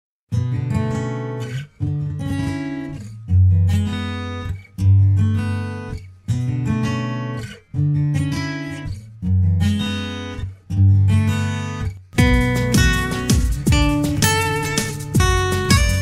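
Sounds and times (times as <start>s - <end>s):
acoustic guitar strumming chords: 0.3s - 16.0s.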